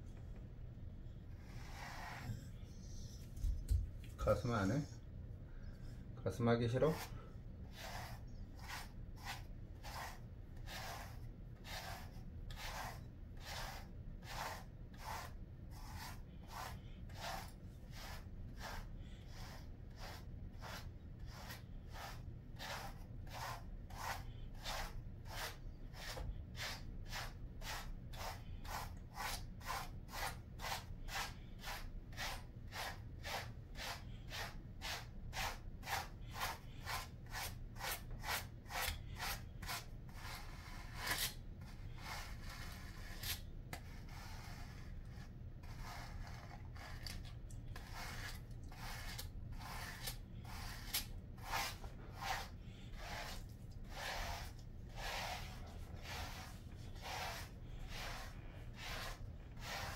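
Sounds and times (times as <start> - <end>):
brush strokes through dog fur: 1.4 - 3.6, 6.4 - 41.1, 43.9 - 59.9.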